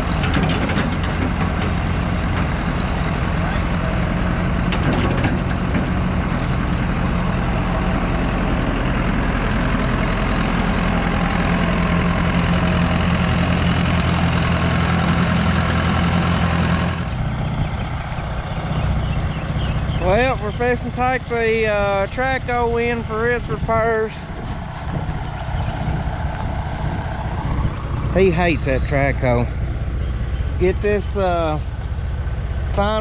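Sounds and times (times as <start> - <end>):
engine idling: 0.0 - 33.0
heavy engine running: 0.0 - 33.0.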